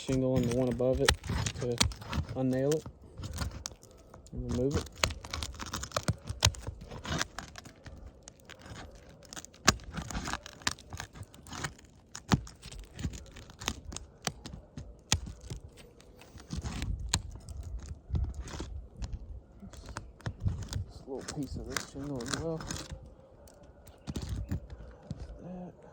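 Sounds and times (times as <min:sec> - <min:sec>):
roof shingles scraping and crackling: 0:00.0 - 0:25.4.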